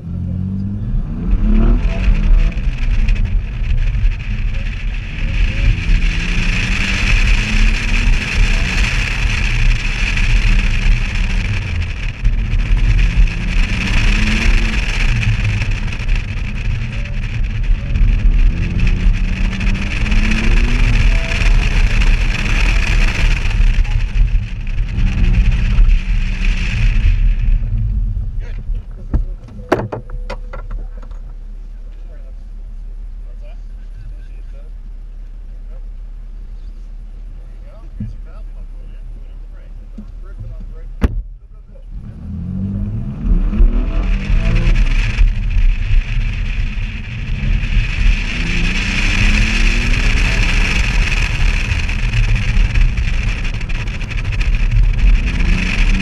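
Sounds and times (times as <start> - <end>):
car engine accelerating: 0.0 - 56.0
low wind rumble on microphone: 0.0 - 56.0.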